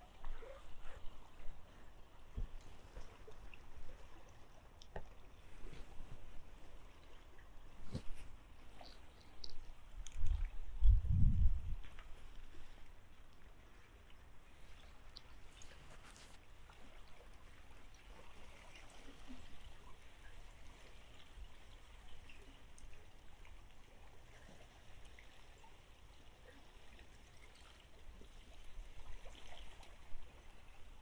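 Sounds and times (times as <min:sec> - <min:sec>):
trickle of running water: 0:00.0 - 0:31.0.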